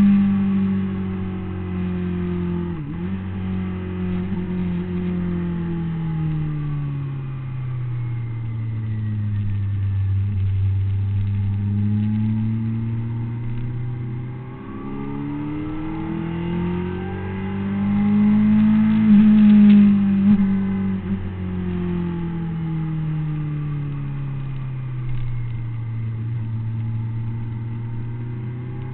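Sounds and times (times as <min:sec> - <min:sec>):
motorcycle engine running at speed: 0:00.0 - 0:28.9.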